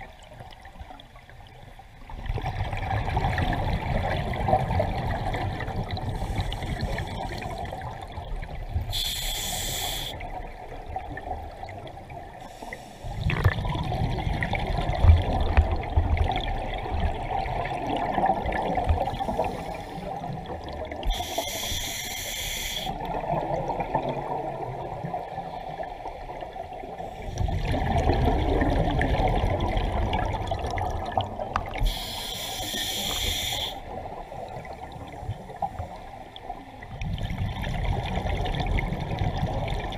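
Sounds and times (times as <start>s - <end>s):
exhaled bubbles underwater: 0.0s - 9.0s, 10.0s - 21.8s, 23.0s - 32.2s, 32.9s - 39.9s
low rumble of water: 0.0s - 22.0s, 22.8s - 39.9s.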